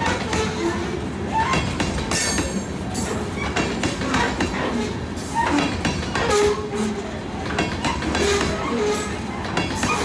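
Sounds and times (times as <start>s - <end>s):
train wheels clacking over rail joints: 0.0s - 10.0s
wheels squealing: 0.0s - 10.0s.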